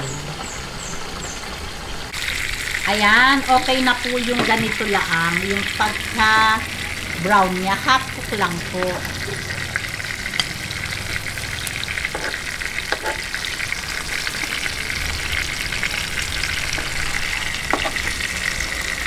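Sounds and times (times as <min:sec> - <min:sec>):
fish frying in hot oil: 0:01.0 - 0:19.0.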